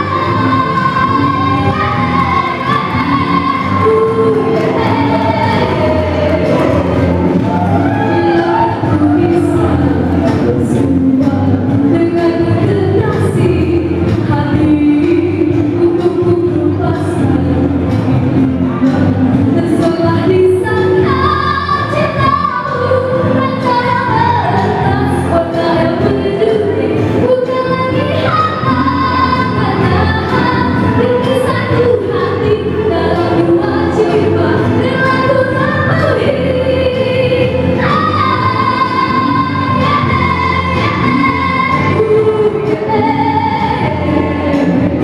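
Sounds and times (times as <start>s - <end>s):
amplified backing music: 0.0s - 45.0s
woman singing into microphone: 0.0s - 45.0s.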